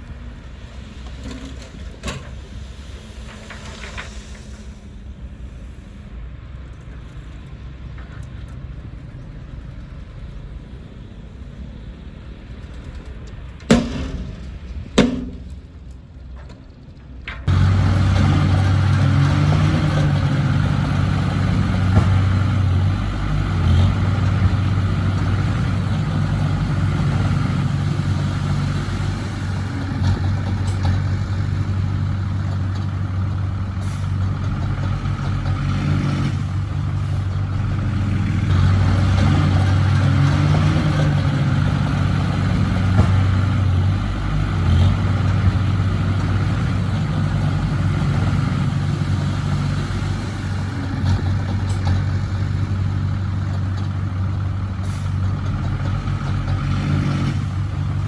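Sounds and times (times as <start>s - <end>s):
diesel engine working: 0.0s - 58.0s.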